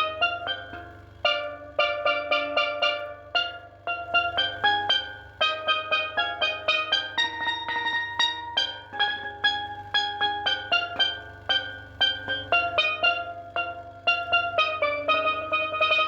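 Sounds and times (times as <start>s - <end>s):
out of tune steel pan melody: 0.0s - 16.0s.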